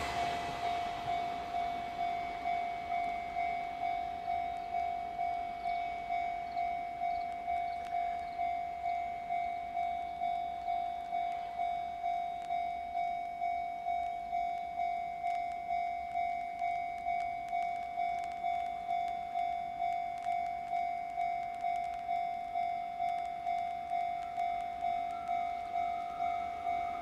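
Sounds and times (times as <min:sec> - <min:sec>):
level-crossing warning bell: 0:00.0 - 0:27.0.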